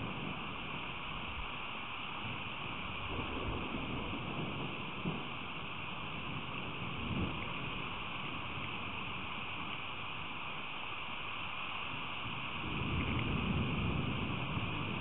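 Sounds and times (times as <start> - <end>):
rain hissing on microphone: 0.0 - 15.0.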